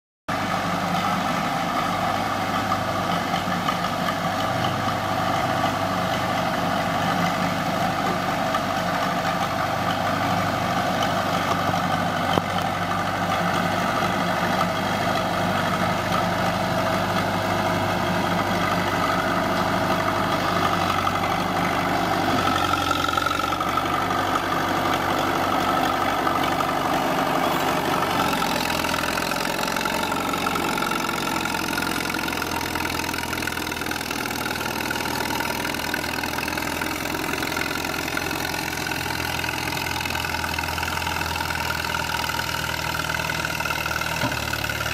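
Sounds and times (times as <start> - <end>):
diesel engine running: 0.3 - 44.9.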